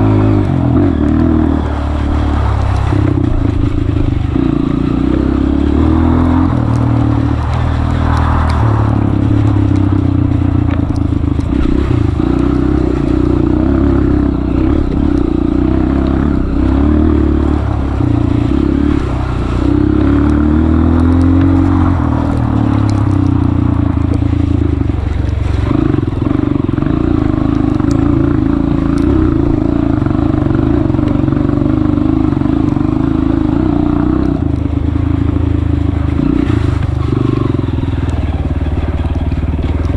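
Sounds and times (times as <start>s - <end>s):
motorbike clatter: 0.0s - 39.9s
motorbike engine revving: 0.0s - 39.9s.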